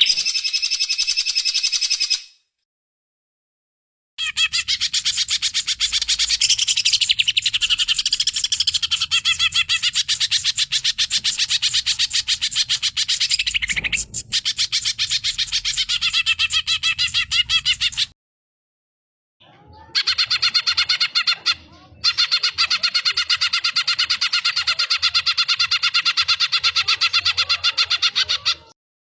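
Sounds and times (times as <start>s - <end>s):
bird singing chattering song: 0.0s - 2.4s, 4.2s - 18.1s, 20.0s - 28.7s.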